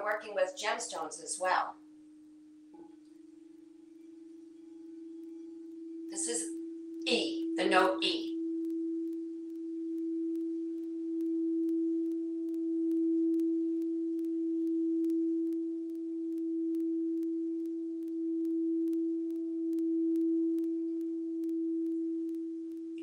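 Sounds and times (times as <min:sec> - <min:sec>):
singing bowl tone: 0:00.0 - 0:23.0.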